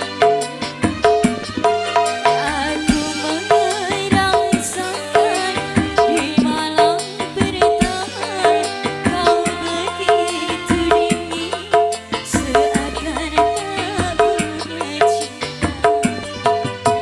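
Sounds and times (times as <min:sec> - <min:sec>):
hand drums beat: 0:00.0 - 0:17.0.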